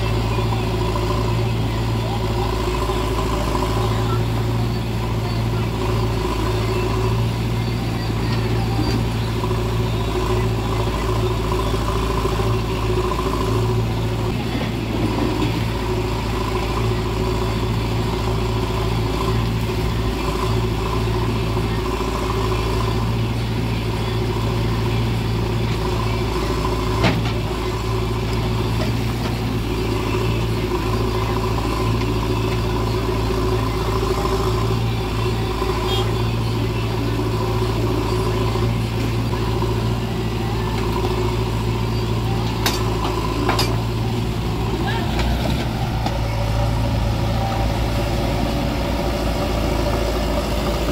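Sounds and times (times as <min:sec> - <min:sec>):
diesel engines droning: 0:00.0 - 0:50.9.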